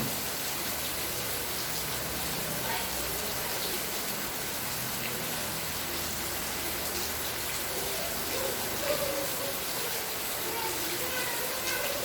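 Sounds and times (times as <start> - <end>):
rain pattering on surfaces: 0.0 - 12.0.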